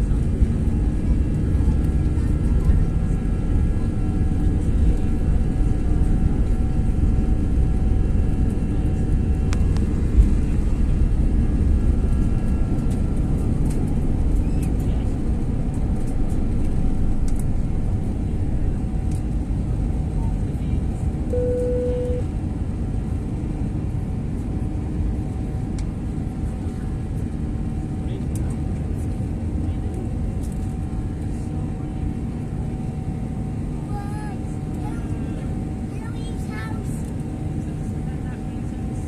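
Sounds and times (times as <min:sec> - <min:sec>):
jet engine rumble: 0:00.0 - 0:39.0
jet engine whine: 0:00.0 - 0:39.0.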